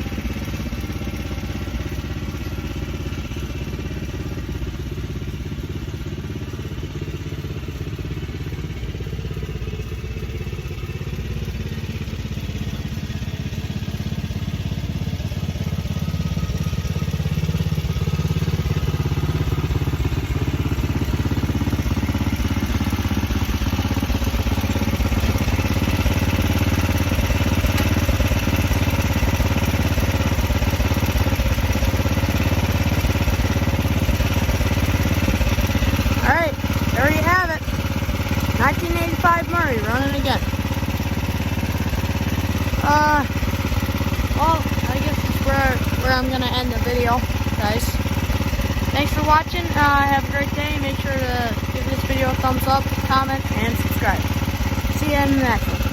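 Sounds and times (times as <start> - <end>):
lawn tractor engine running: 0.0 - 55.9.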